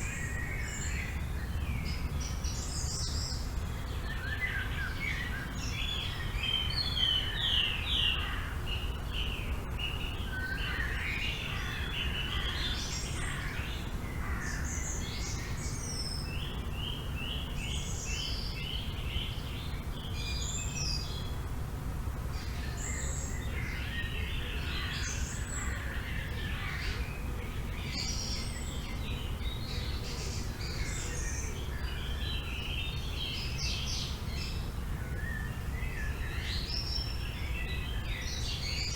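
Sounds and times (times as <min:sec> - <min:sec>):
low rumble of wind: 0:00.0 - 0:38.9
songbirds chirping and trilling: 0:00.0 - 0:38.9.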